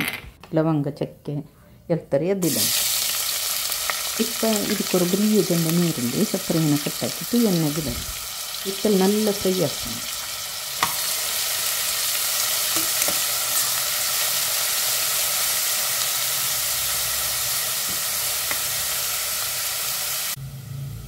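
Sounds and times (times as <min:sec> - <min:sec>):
onions sizzling in oil: 0:02.4 - 0:20.4.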